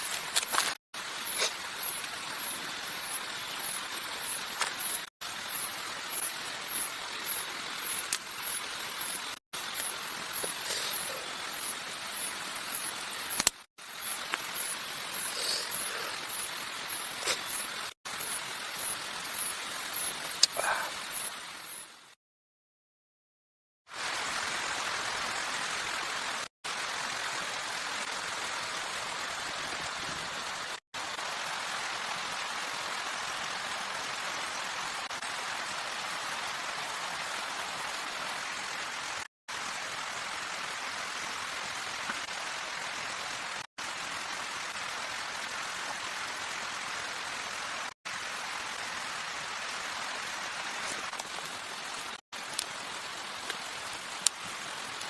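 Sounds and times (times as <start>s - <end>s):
steady rain: 0.0s - 22.2s, 23.9s - 55.0s.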